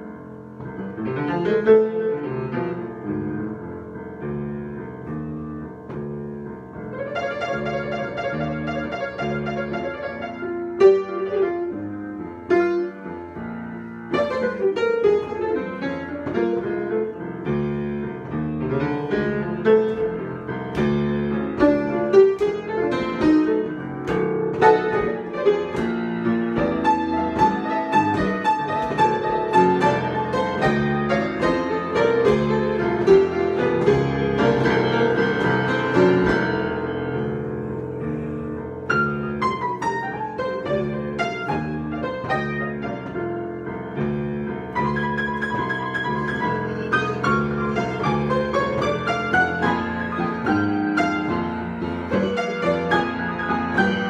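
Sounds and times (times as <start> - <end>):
solo piano improvisation: 0.0 - 54.0.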